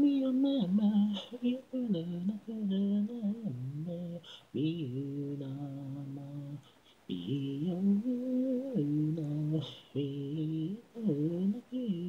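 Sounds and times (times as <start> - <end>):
person singing a cappella: 0.0 - 12.0.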